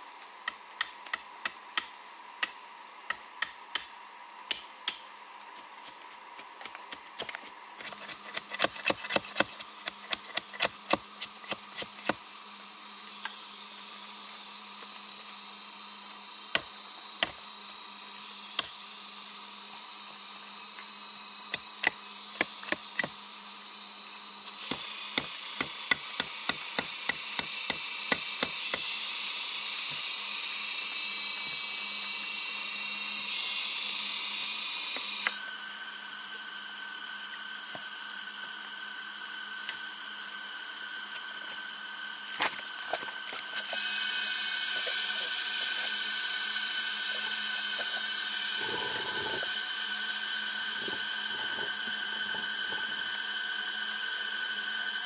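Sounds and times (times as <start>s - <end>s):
steady high hiss: 0.0s - 9.9s, 10.6s - 55.0s.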